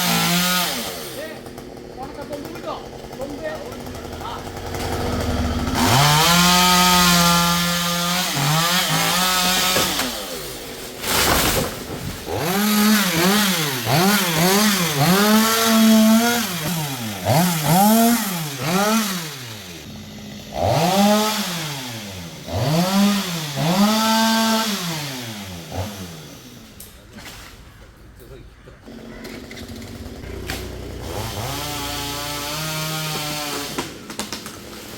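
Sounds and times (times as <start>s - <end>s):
chainsaw revving: 0.0s - 26.8s, 28.8s - 34.9s.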